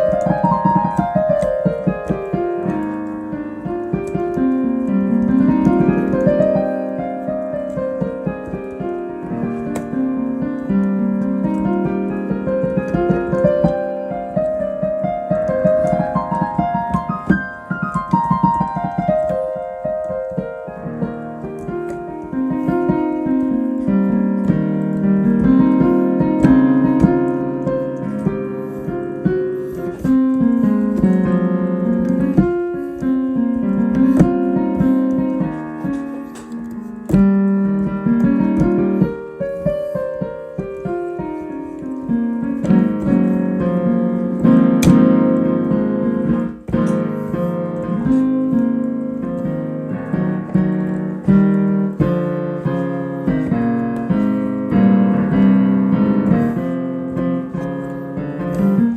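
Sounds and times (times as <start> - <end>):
solo piano: 0.0 - 58.9.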